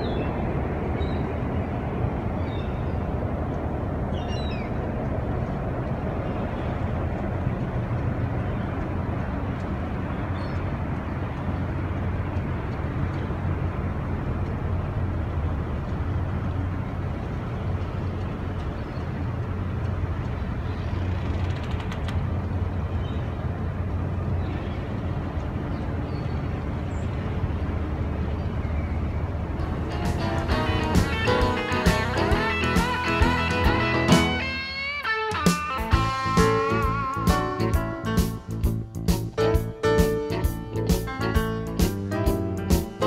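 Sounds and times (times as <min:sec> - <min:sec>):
boat diesel engine rumbling: 0:00.0 - 0:43.0.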